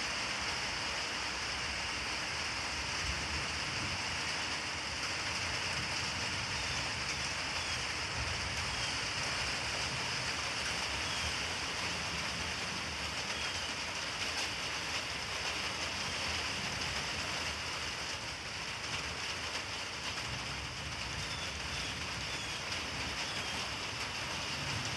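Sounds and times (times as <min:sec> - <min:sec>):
rain hissing: 0:00.0 - 0:24.9.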